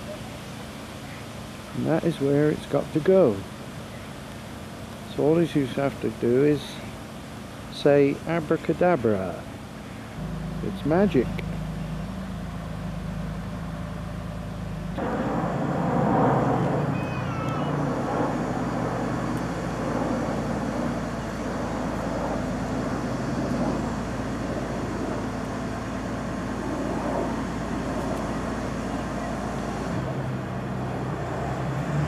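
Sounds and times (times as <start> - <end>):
diesel crane engine running: 0.0 - 32.0.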